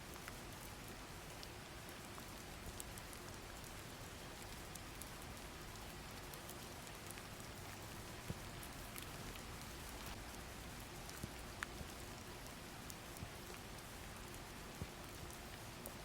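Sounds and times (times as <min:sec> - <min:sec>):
rain hiss: 0:00.0 - 0:16.0
raindrop ticks: 0:00.0 - 0:16.0.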